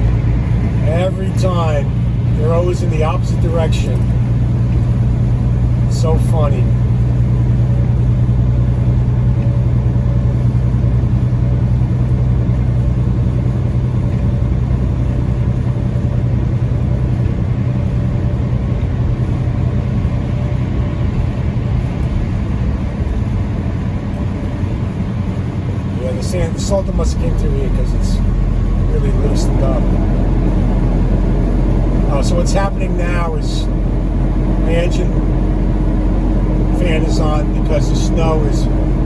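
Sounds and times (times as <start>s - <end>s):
diesel engine droning in cab: 0.0s - 39.0s
tyre noise on highway: 0.0s - 39.0s.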